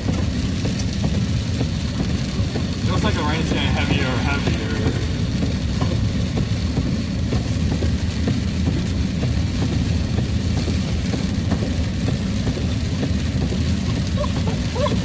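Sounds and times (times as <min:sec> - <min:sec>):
heavy rain on truck roof: 0:00.0 - 0:15.0
truck engine low rumble: 0:00.0 - 0:15.0.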